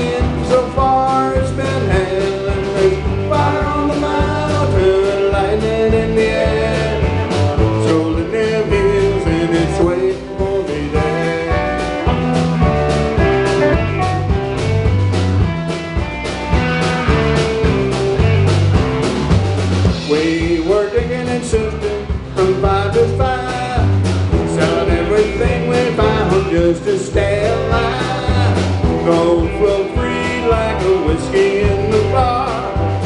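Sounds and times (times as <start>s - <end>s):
country-rock band playing: 0.0s - 33.0s.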